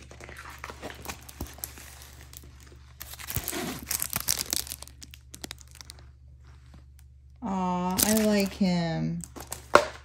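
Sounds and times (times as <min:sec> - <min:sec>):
plastic film crinkling: 0:00.0 - 0:07.3, 0:08.0 - 0:09.8.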